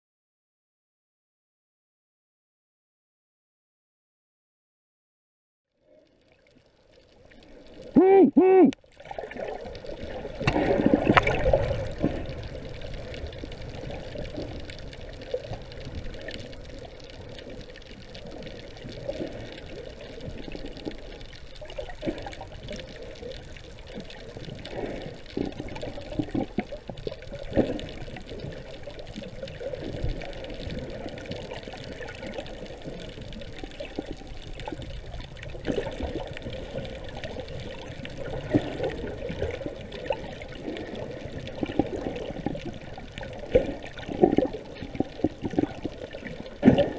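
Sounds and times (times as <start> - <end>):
water sloshing underwater: 5.8 - 46.9.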